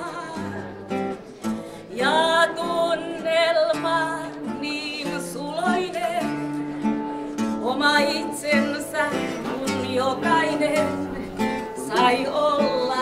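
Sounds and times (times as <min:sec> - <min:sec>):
woman singing with vibrato: 0:00.0 - 0:01.1, 0:01.8 - 0:13.0.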